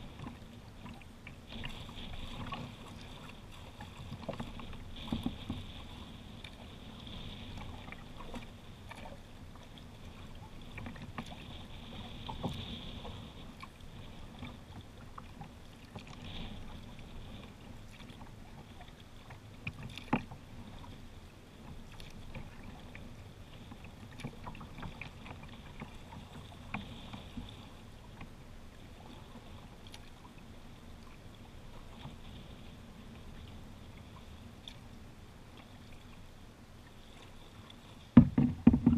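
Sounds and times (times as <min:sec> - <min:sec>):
water lapping against kayak hull: 0:00.0 - 0:38.9.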